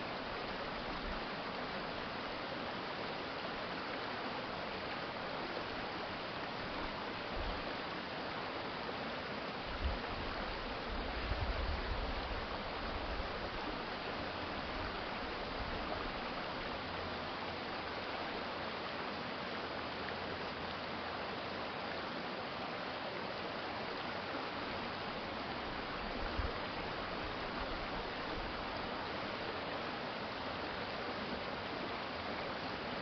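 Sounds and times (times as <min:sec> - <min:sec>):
water rushing in a stream: 0:00.0 - 0:33.0.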